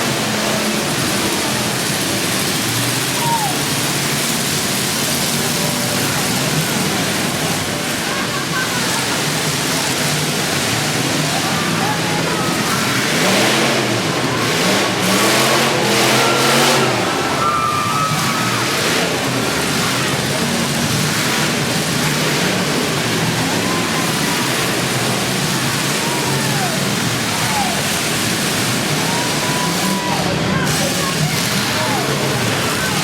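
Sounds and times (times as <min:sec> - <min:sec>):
car engines revving hard: 0:00.0 - 0:33.0
roar of engines and arena: 0:00.0 - 0:33.0.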